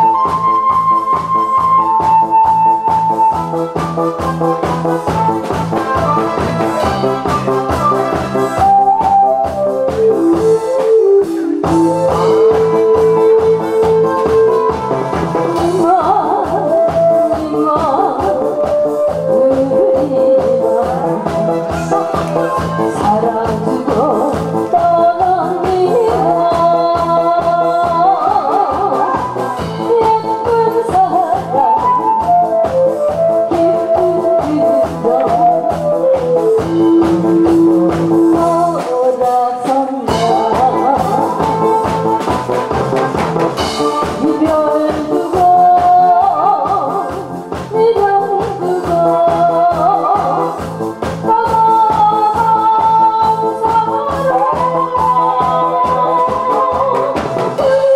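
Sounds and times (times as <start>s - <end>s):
woman singing: 0.0s - 42.4s, 43.6s - 57.9s
backing music with steady beat: 0.0s - 57.9s.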